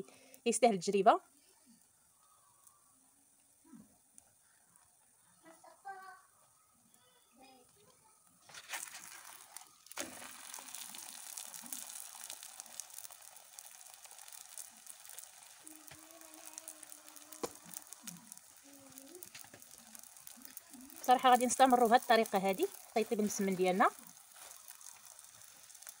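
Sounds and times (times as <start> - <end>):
flatbread sizzling in a pan: 1.2 - 26.0.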